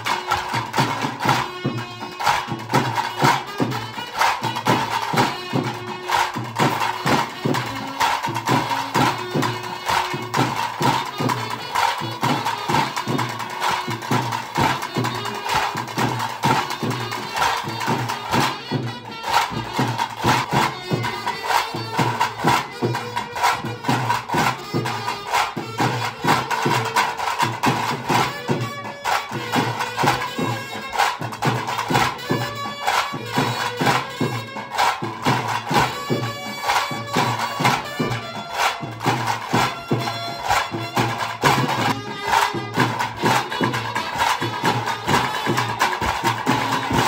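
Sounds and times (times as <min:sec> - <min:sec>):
drums beating dense rhythm: 0:00.0 - 0:47.0.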